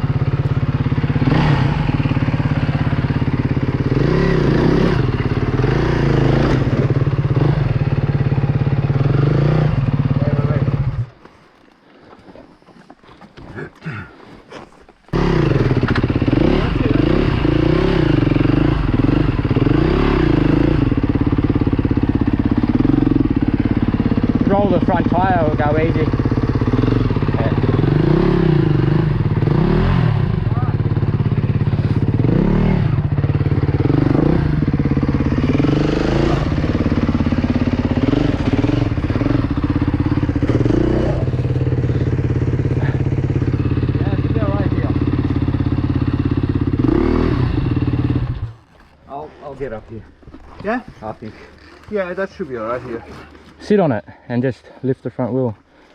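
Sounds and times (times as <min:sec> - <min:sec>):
dirt bike engine revving: 0:00.0 - 0:11.1, 0:15.1 - 0:49.8.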